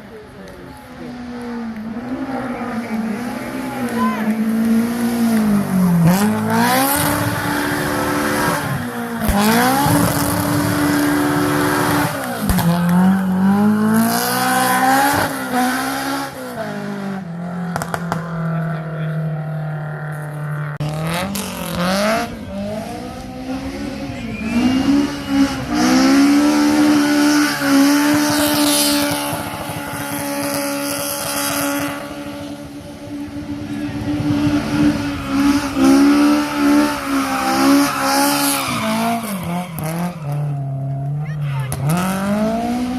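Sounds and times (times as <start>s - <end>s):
rally car engine revving hard: 1.1s - 40.9s, 41.6s - 42.9s.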